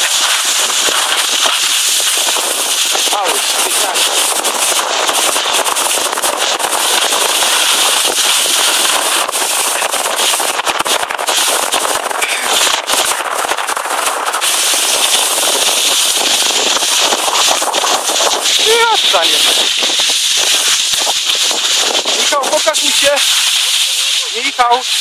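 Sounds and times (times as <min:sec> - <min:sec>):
skis scraping over snow: 0:00.0 - 0:25.0.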